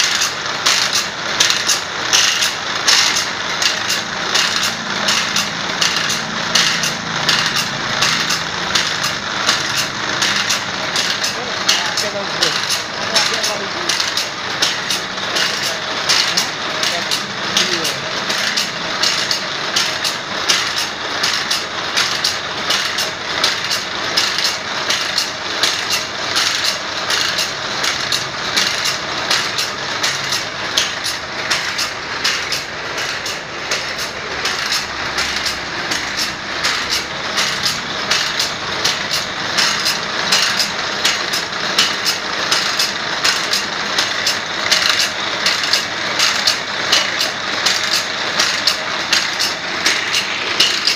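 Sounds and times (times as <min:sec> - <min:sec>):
feed pawl clicking: 0:00.0 - 0:50.9
grinding wheel grinding saw teeth: 0:00.0 - 0:50.9.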